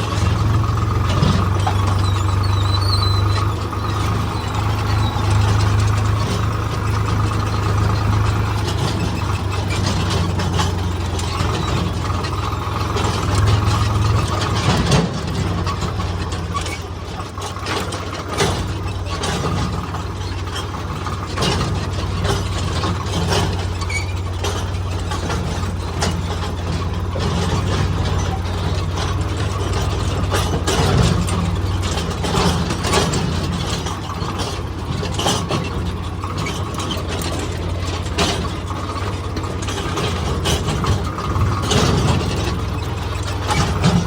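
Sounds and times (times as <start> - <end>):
metallic rattles and knocks: 0.0 - 44.0
tractor diesel engine running: 0.0 - 44.0.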